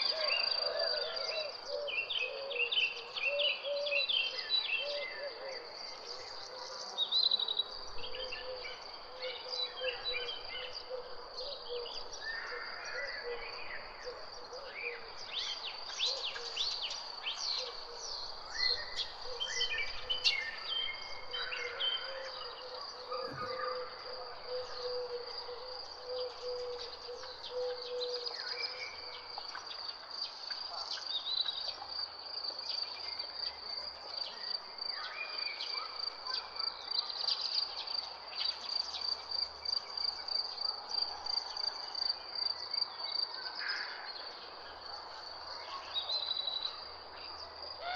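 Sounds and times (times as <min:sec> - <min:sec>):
birds chirping and trilling: 0:00.0 - 0:39.8.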